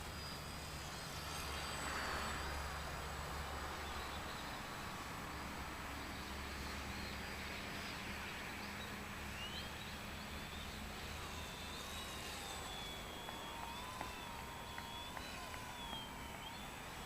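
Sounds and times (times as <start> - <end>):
model airplane motor whining: 0.0 - 17.0.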